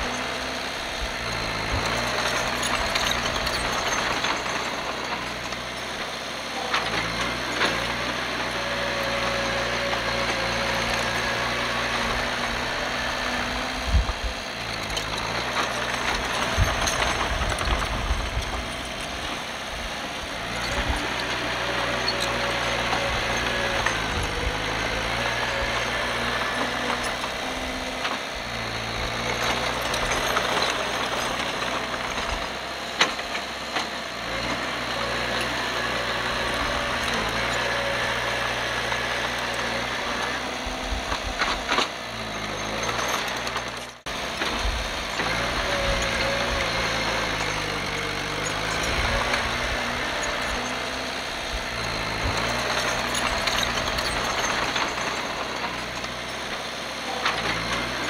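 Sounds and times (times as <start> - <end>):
bulldozer diesel engine working: 0.0 - 58.0.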